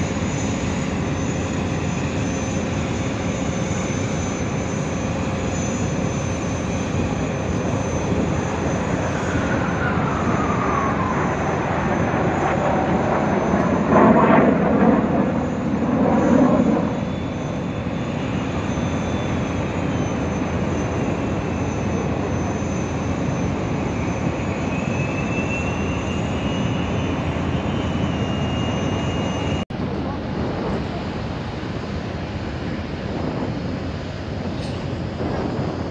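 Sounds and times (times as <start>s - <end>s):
jet aircraft rushing and whining: 0.0s - 35.9s.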